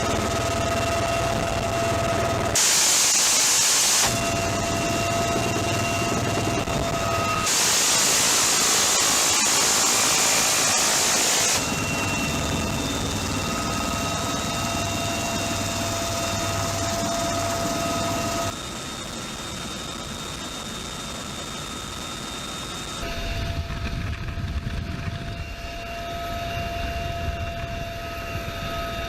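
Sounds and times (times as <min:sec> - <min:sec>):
helicopter turbine whine and rotor: 0:00.0 - 0:29.0.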